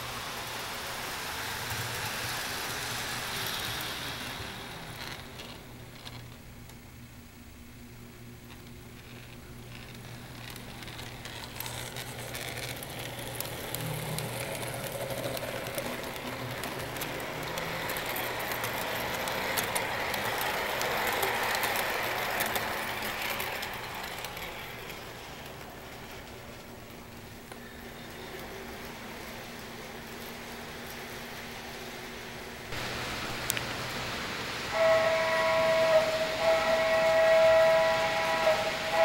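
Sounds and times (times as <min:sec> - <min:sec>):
model train wheels clicking on rails: 0:00.0 - 0:06.9, 0:08.3 - 0:39.0.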